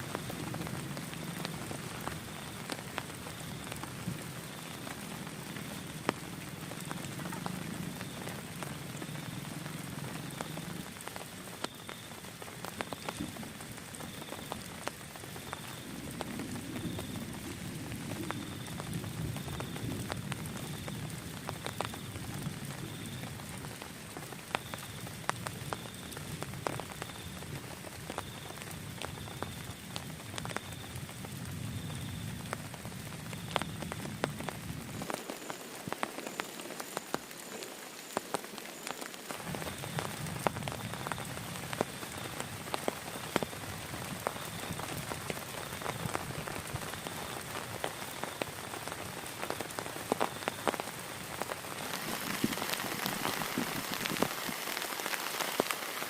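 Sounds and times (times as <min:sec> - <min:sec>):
raindrops striking close by: 0:00.0 - 0:56.0
steady rain falling: 0:00.0 - 0:56.0.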